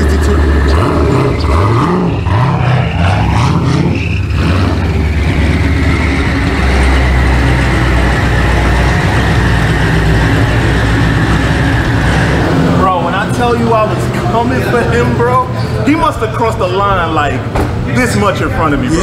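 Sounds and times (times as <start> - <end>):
car engine revving: 0.0 - 19.0
road noise: 0.0 - 19.0.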